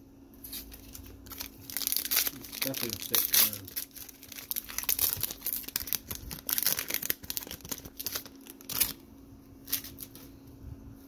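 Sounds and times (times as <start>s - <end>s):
foil wrapper crinkling: 0.4s - 10.2s.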